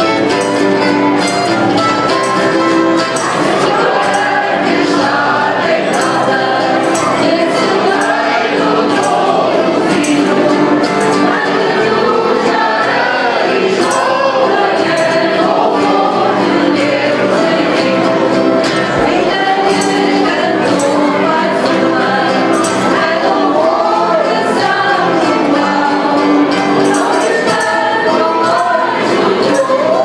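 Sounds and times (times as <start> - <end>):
guitars: 0.0 - 30.0
mixed choir singing a carol: 0.0 - 30.0
tambourine jingles: 0.0 - 30.0.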